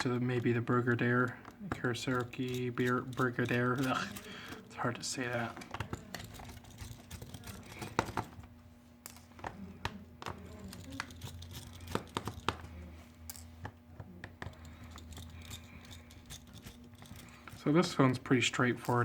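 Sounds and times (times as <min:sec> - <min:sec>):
faint steady hum: 0:00.0 - 0:19.0
plastic parts clicking and scraping: 0:00.3 - 0:08.4, 0:10.2 - 0:19.0.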